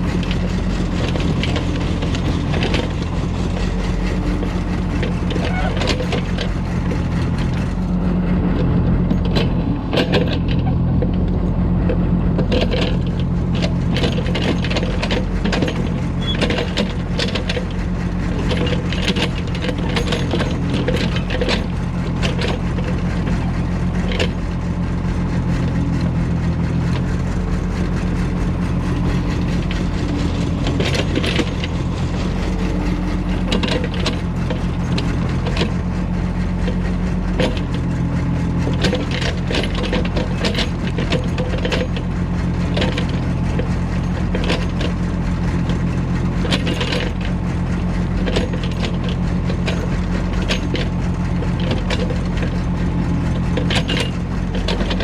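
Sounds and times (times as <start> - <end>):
excavator bucket knocking and clattering: 0.0 - 7.8, 8.6 - 55.0
diesel engines running: 0.0 - 55.0.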